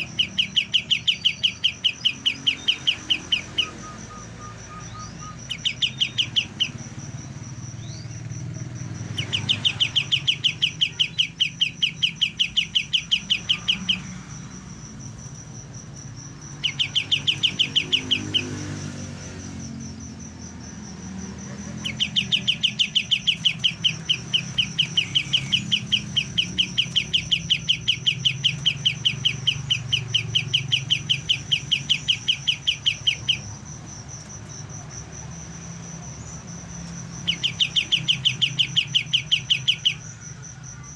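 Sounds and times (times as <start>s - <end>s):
bird rapid sharp chirps: 0.0s - 40.9s
high insect-like whine: 0.0s - 40.9s.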